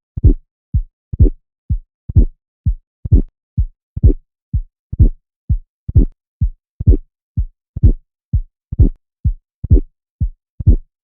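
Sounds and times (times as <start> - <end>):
heartbeat with click and murmur: 0.2 - 11.0.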